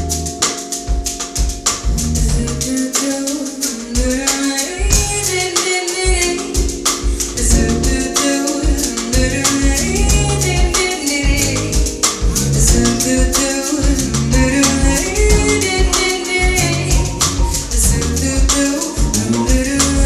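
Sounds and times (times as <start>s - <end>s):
electric bass: 0.0s - 2.8s, 4.8s - 5.6s, 6.7s - 8.2s, 8.9s - 20.0s
drum kit: 0.0s - 20.0s
piano: 0.0s - 20.0s.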